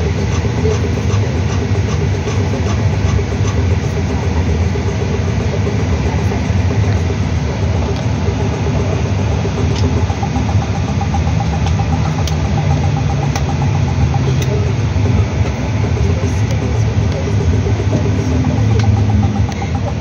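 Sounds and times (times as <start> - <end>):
aircraft engine hum: 0.0 - 20.0.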